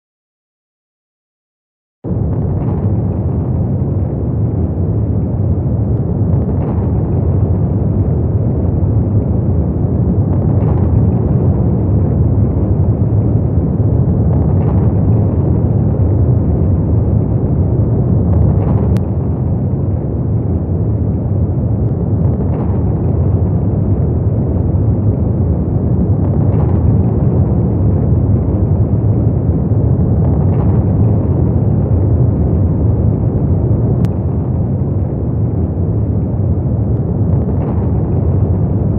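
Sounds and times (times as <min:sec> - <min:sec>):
deep rumbling drone: 0:02.0 - 0:38.9.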